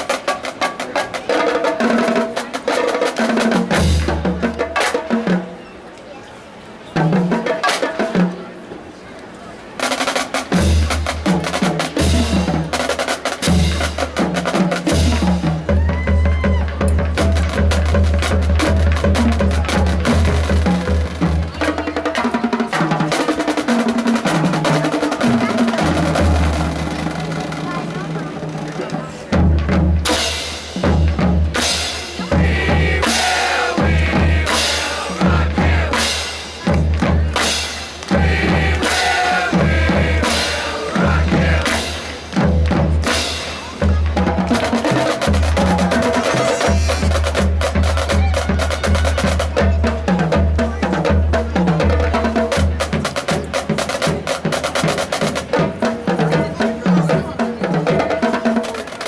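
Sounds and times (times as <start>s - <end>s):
snare drums: 0.0s - 5.6s, 7.0s - 8.4s, 9.8s - 59.0s.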